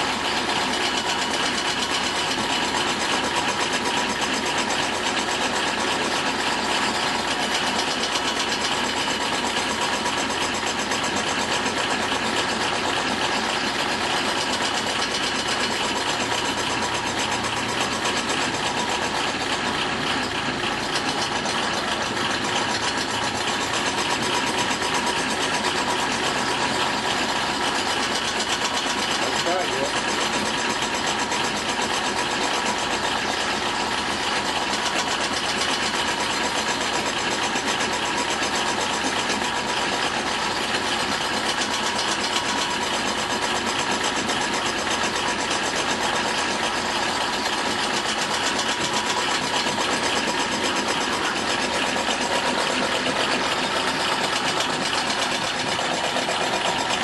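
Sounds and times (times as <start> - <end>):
car engine idling low: 0.0 - 57.0.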